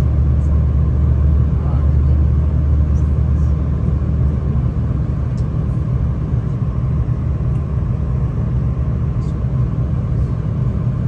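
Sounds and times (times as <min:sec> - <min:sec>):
train carriage rumbling on track: 0:00.0 - 0:11.0.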